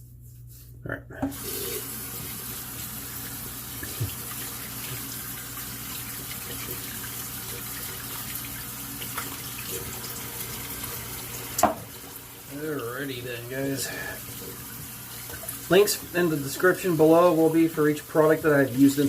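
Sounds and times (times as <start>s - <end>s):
sink faucet running: 1.3s - 19.0s.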